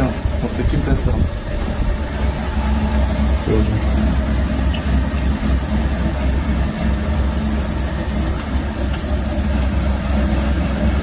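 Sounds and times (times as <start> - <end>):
generator drone with low hum: 0.0 - 11.0.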